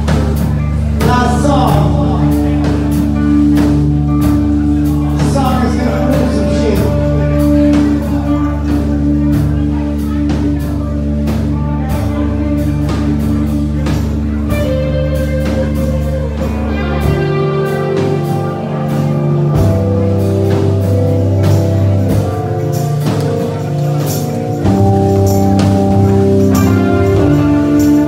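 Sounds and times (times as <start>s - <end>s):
drum kit beating: 0.0s - 28.0s
live rock band playing: 0.0s - 28.0s
low bass notes: 0.0s - 28.0s.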